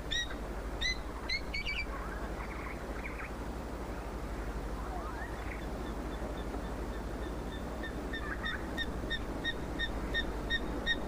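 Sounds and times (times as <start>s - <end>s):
steady hiss: 0.0s - 11.0s
animal high piping calls: 0.1s - 3.3s, 5.0s - 11.0s.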